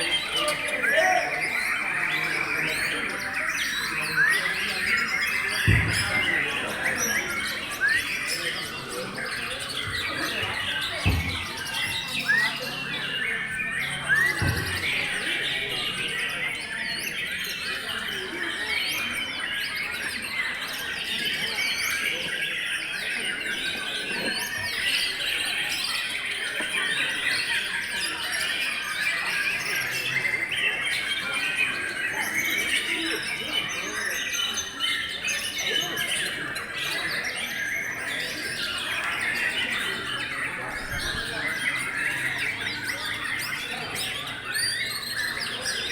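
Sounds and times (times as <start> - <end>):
birds singing whistled phrases: 0.0 - 45.9.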